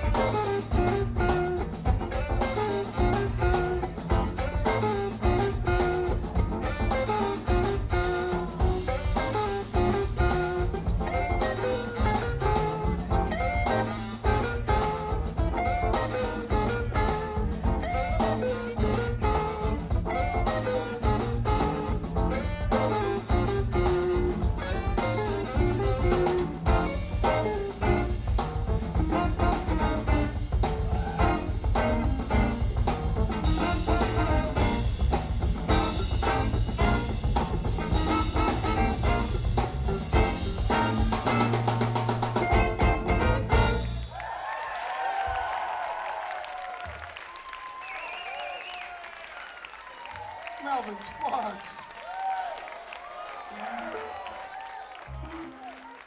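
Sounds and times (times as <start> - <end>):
upbeat jazz music: 0.0 - 44.2, 53.6 - 56.0.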